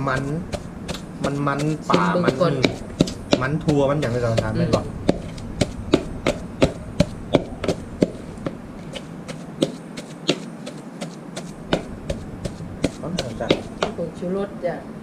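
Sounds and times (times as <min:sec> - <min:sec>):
wooden pestle pounding paste in mortar: 0:00.0 - 0:14.2.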